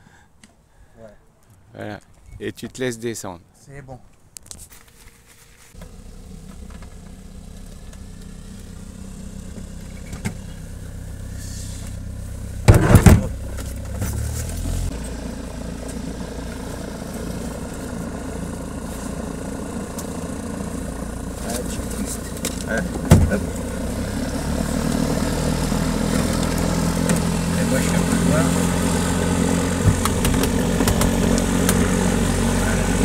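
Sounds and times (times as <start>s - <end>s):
propeller aircraft engine running: 5.8s - 33.0s.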